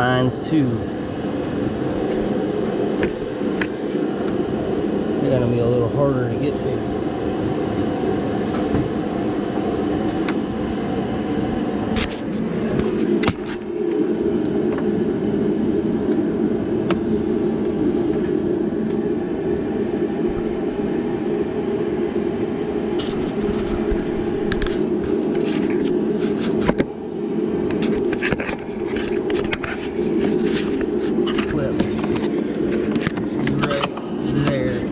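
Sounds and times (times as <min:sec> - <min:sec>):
machine drone: 0:00.0 - 0:34.9.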